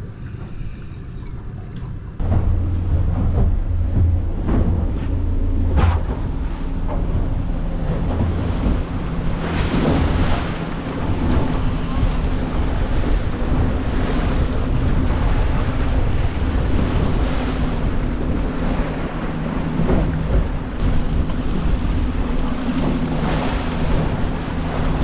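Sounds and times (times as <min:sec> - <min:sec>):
boat engine humming: 0:00.0 - 0:25.0
water rushing past hull: 0:01.8 - 0:25.0
wind buffeting microphone: 0:02.2 - 0:25.0.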